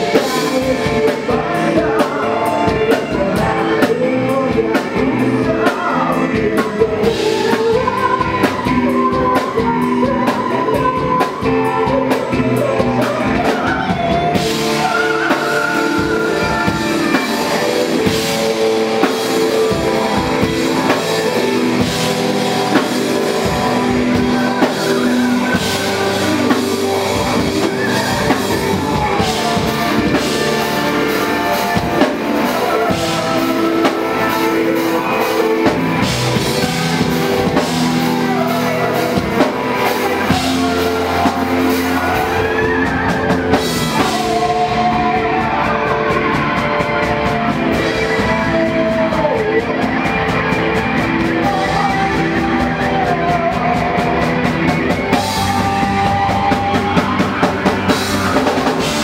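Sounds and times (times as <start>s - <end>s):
drum kit: 0.0s - 59.0s
electric bass: 0.0s - 59.0s
electric guitar: 0.0s - 59.0s
man singing lead vocal: 0.0s - 59.0s.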